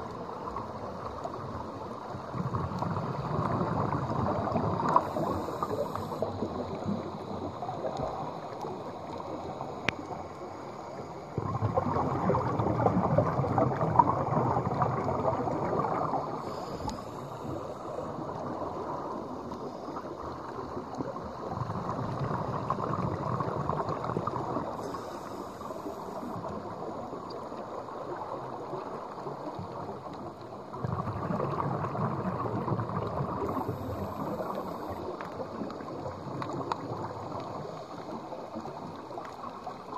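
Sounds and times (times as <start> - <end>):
underwater water noise: 0.0 - 39.9.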